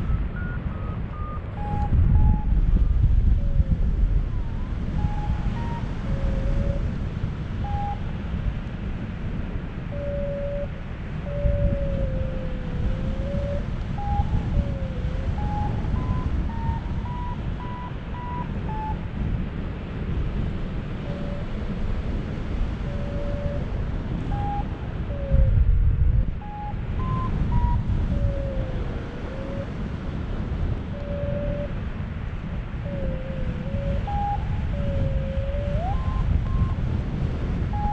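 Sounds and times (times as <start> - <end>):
wind rushing on microphone: 0.0 - 37.9.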